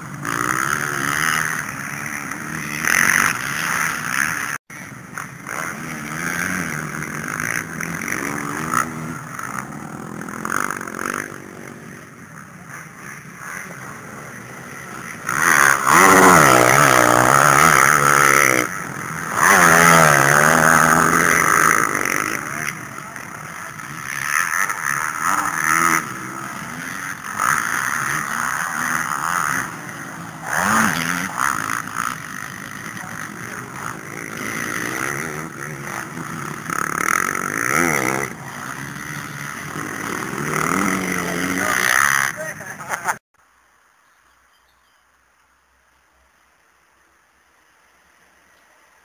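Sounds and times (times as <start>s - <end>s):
motocross bike engines revving: 0.0s - 43.3s.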